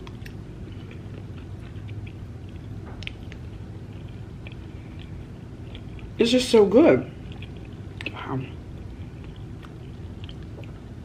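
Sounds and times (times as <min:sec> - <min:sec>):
wet mouth clicks chewing: 0:00.0 - 0:06.2, 0:07.1 - 0:11.0
steady low hum: 0:00.0 - 0:11.0.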